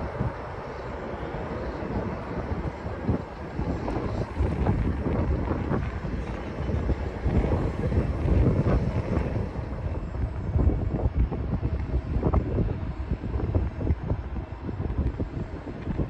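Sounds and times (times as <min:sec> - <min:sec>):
jet airliner rumble: 0:00.0 - 0:16.0
wind buffeting microphone: 0:00.0 - 0:16.0.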